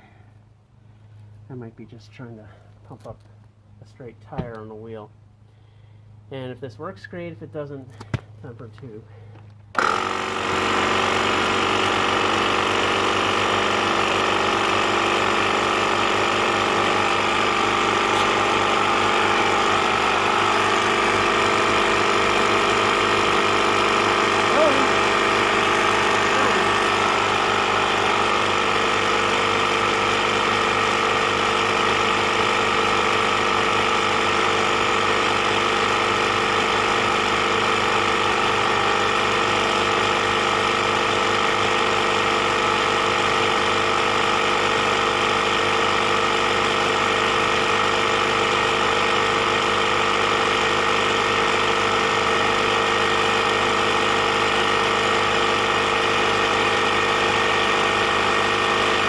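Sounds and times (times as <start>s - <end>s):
electric tire inflator running: 9.3s - 59.0s.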